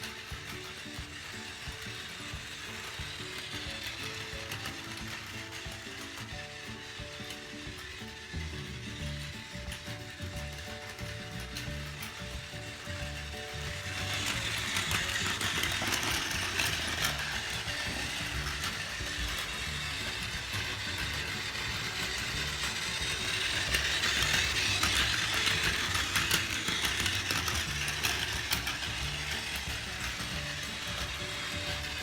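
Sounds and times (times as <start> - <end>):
faint background music: 0.0 - 32.0
toy train motor whirring: 0.0 - 32.0
wheels clicking on rail joints: 0.0 - 32.0.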